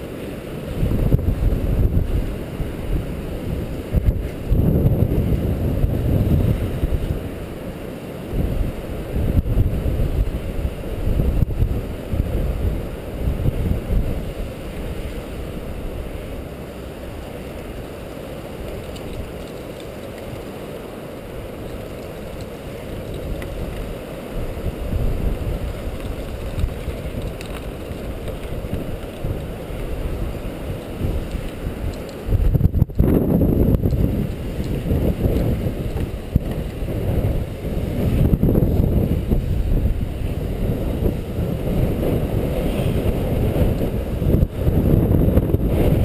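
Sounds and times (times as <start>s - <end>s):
wind buffeting microphone: 0.0s - 7.6s, 8.2s - 20.6s, 21.2s - 46.0s.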